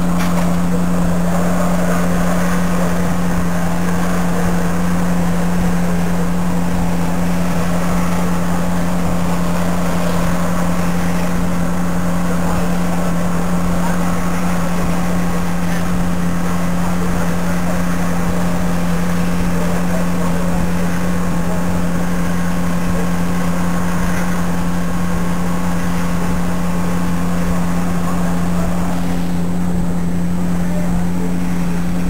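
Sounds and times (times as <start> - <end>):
engine droning: 0.0 - 32.0.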